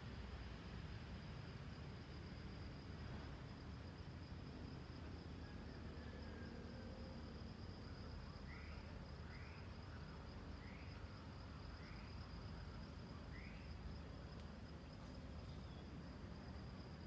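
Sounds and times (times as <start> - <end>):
insects trilling: 1.5 - 17.0.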